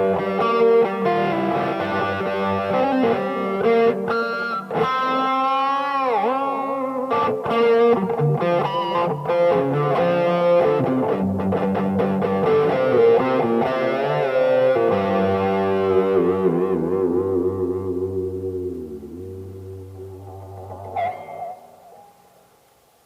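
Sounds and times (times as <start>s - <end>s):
distorted electric guitar: 0.0s - 22.8s.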